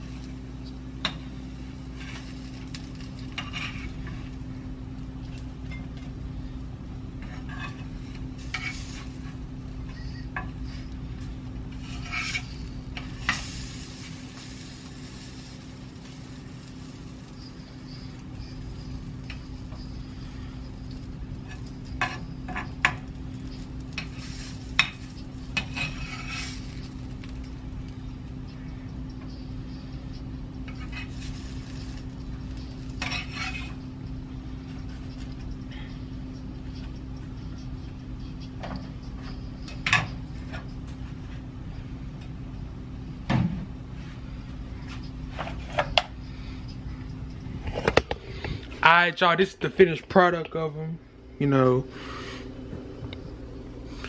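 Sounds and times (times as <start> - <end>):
deep-frying sizzle: 0.0 - 49.9
steady low hum: 0.0 - 54.0.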